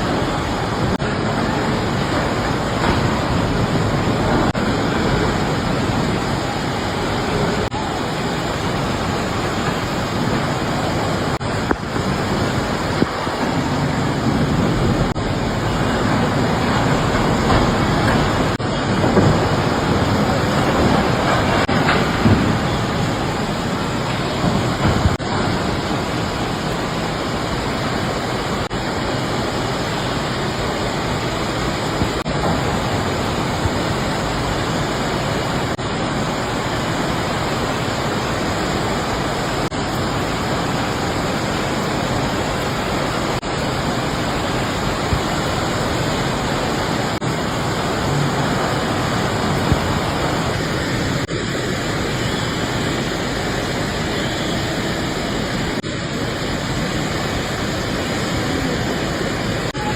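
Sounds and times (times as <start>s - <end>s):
rushing floodwater: 0.0s - 59.9s.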